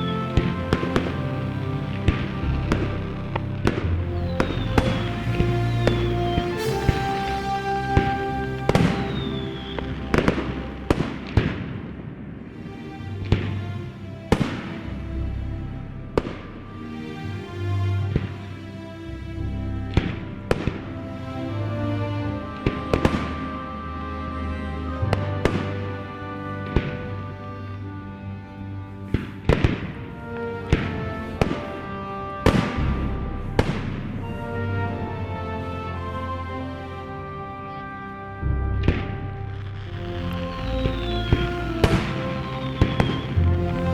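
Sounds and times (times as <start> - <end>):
background music: 0.0 - 43.9.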